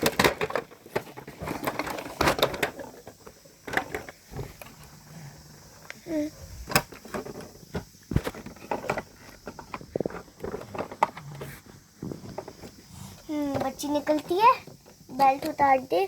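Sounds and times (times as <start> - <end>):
toys clicking and knocking: 0.0 - 5.0, 6.6 - 16.0.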